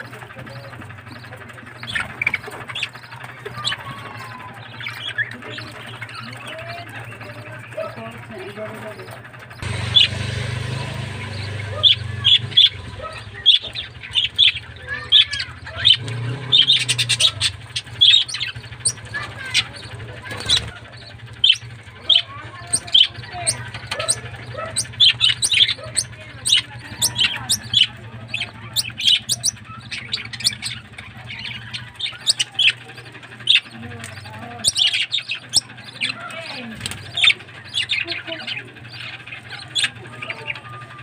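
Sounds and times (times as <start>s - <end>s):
budgerigars chirping: 0.0s - 41.0s.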